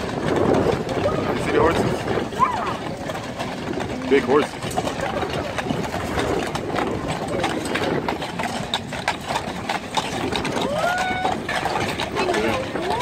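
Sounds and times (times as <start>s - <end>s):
harness chains jingling: 0.0s - 13.0s
hoofbeats on pavement: 0.0s - 13.0s.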